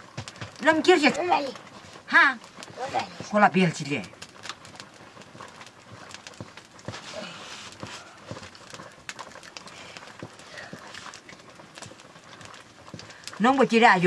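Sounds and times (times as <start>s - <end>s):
crackling wood fire: 0.0s - 14.0s
greens hissing in a wok: 0.6s - 14.0s.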